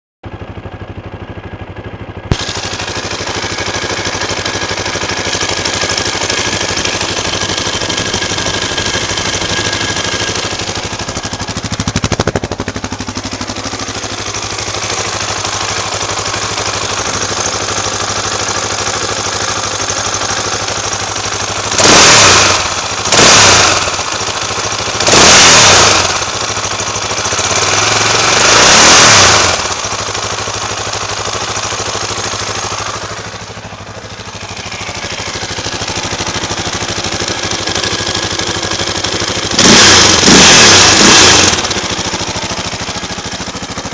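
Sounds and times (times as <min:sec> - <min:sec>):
motorcycle engine idling: 0:00.2 - 0:43.9
engine revving: 0:02.3 - 0:31.3, 0:35.7 - 0:43.4.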